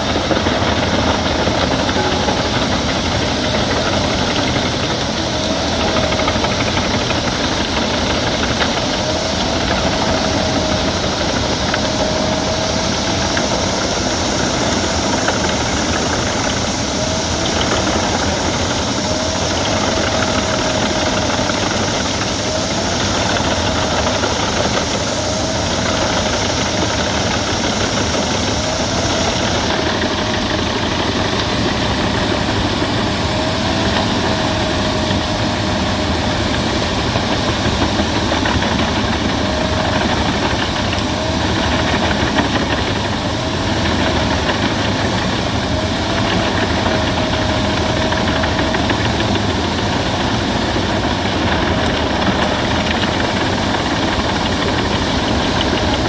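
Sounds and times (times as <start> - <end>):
wood chipper chipping branches: 0.0 - 56.0.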